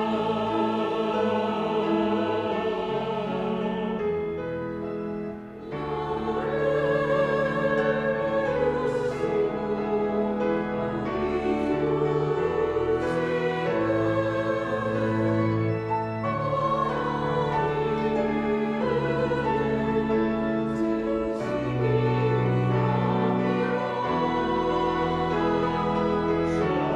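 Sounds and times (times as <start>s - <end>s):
choir singing a hymn: 0.0s - 26.9s
piano and organ accompaniment: 0.0s - 26.9s.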